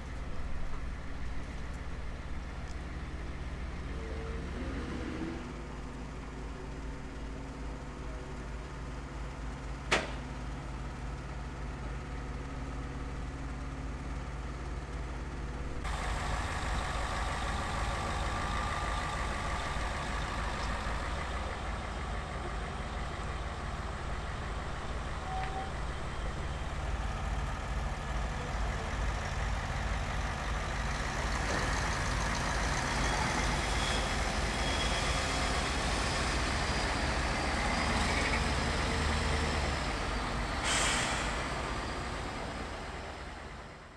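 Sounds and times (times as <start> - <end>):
diesel engines low rumble: 0.0 - 43.9.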